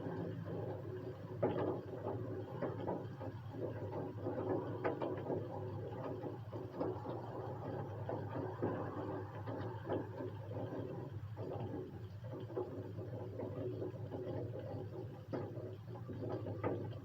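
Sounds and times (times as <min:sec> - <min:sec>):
raindrops tapping and dripping: 0:00.0 - 0:17.0
steady rain: 0:00.0 - 0:17.0.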